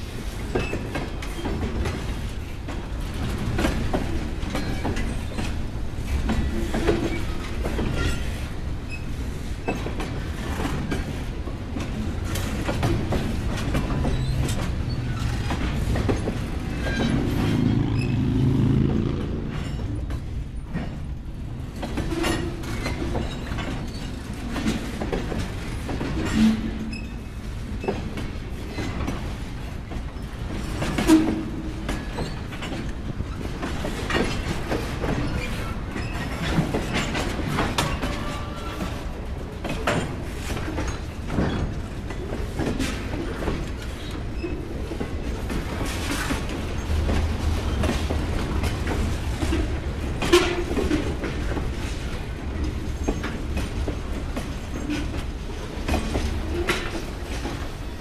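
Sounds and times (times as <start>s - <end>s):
freight train rumbling past: 0.0s - 58.0s
wheels clacking over rail joints: 0.0s - 58.0s.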